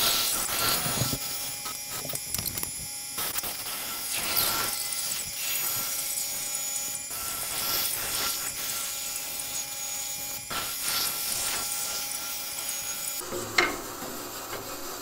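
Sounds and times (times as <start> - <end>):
bandsaw cutting wood: 0.0 - 15.0.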